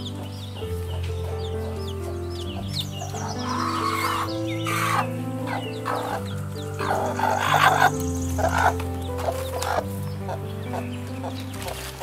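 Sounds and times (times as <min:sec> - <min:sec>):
baby chicks peeping: 0:00.0 - 0:12.0
background music with held notes: 0:00.0 - 0:12.0.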